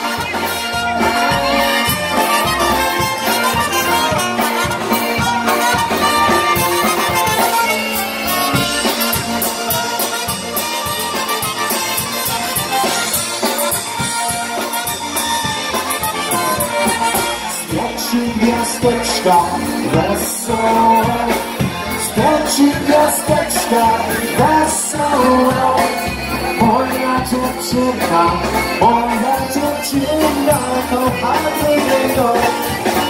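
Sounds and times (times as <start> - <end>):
polka band playing: 0.0 - 33.0.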